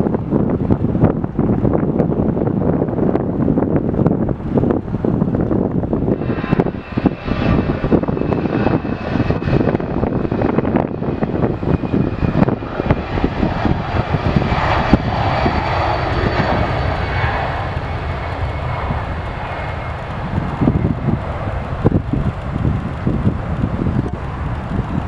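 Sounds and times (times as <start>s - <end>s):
high engine whine: 0.0s - 25.0s
jet engines roaring: 0.0s - 25.0s.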